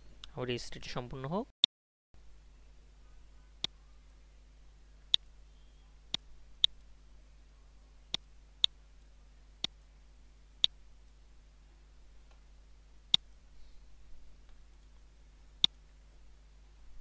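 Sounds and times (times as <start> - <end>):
faint low hum: 2.2 - 17.0.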